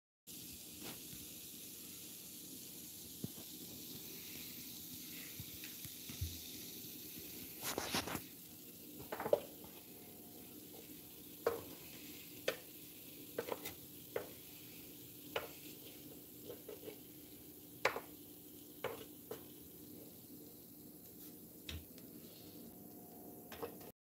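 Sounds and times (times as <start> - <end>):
fish frying in oil: 0.3 - 21.8.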